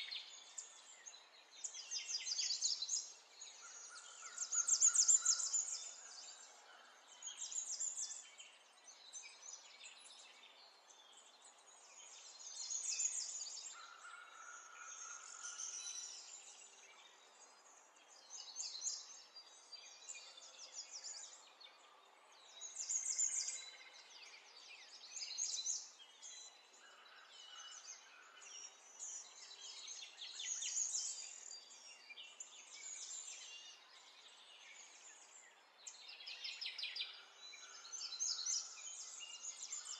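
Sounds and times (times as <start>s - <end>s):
faint outdoor hiss: 0.0s - 39.9s.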